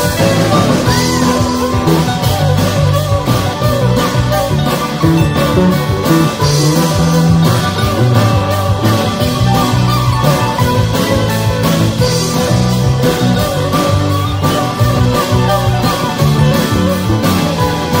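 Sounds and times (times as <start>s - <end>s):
bass notes: 0.0s - 18.0s
plucked strings melody: 0.0s - 18.0s
steady drum beat: 0.0s - 18.0s.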